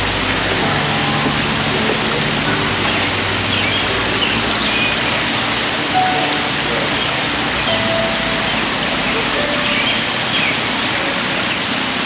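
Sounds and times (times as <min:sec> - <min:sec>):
rushing running water: 0:00.0 - 0:12.0.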